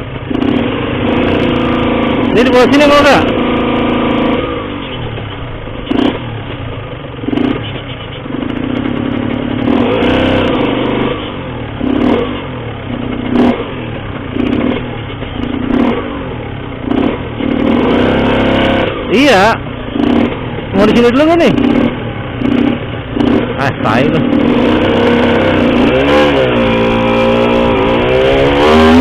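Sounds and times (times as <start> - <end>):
two-stroke motorcycle revving: 0.0 - 29.0.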